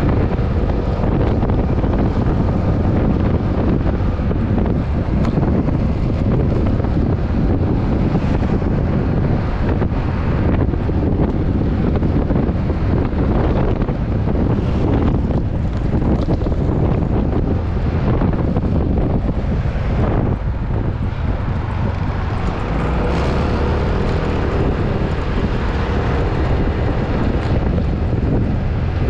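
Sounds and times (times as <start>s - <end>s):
road noise: 0.0s - 29.0s
scooter engine running: 0.0s - 29.0s
wind rushing over microphone: 0.0s - 29.0s.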